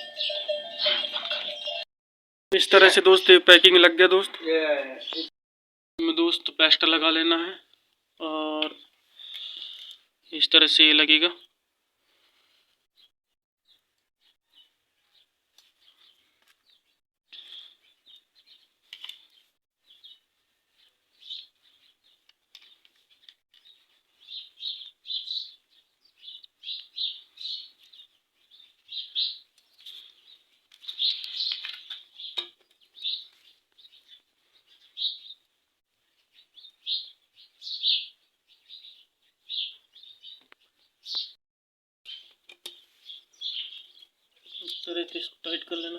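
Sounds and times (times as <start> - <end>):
birds chirping: 0.0 - 1.9, 2.6 - 5.3, 8.3 - 11.6, 13.0 - 41.4, 42.1 - 45.9.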